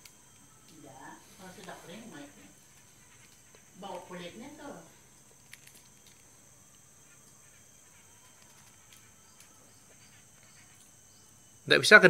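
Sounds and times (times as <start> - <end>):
hand stirring dried coffee beans: 0.0 - 11.0
crickets chirring: 0.0 - 12.0.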